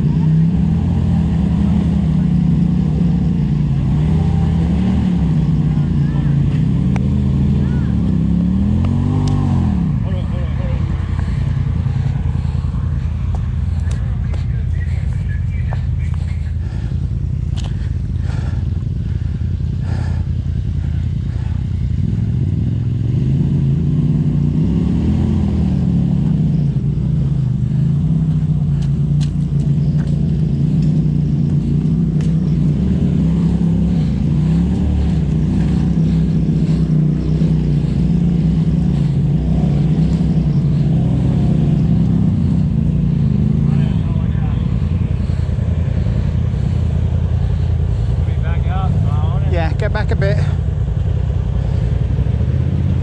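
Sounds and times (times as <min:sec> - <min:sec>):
engine running at low revs: 0:00.0 - 0:53.0.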